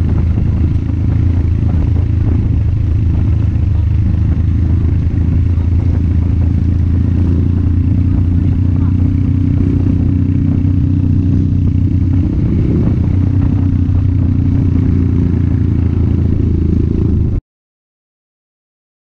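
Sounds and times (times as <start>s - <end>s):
dirt bike engine running: 0.0s - 17.4s.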